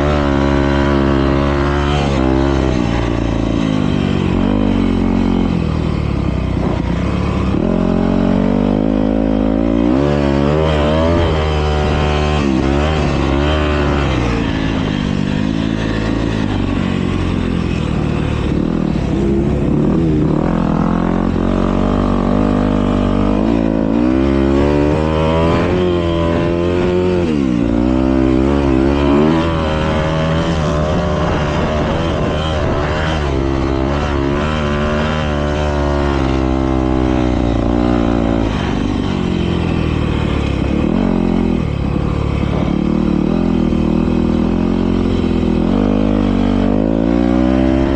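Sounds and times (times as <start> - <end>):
motocross bikes revving: 0.0 - 47.9.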